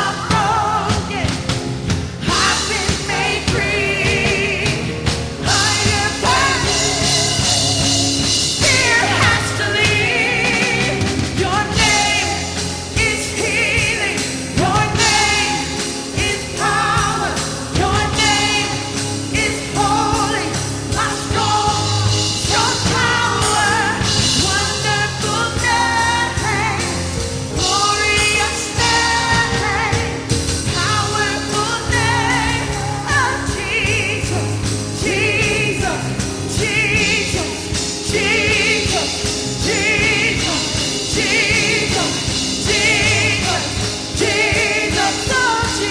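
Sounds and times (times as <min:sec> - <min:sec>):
worship band playing: 0:00.0 - 0:45.9
singers holding notes: 0:02.1 - 0:45.9.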